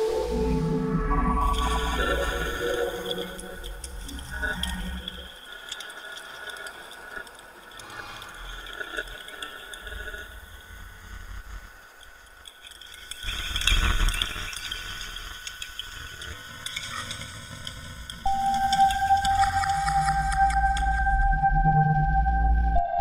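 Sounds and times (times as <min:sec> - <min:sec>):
small clicks and drips: 0:01.5 - 0:21.2.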